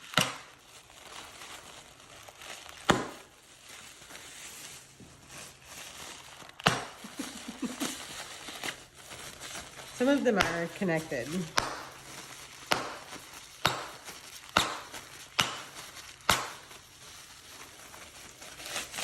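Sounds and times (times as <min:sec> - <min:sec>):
bubble wrap crinkling: 0:00.0 - 0:19.0
bubble wrap popping: 0:00.0 - 0:19.0.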